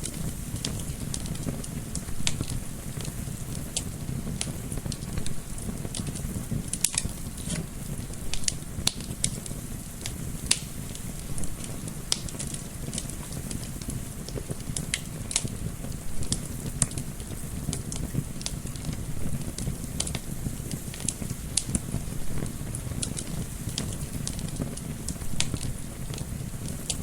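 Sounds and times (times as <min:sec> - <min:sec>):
gentle wind: 0:00.0 - 0:27.0
low rumble of flame: 0:00.0 - 0:27.0
wood fire crackling and popping: 0:00.0 - 0:27.0.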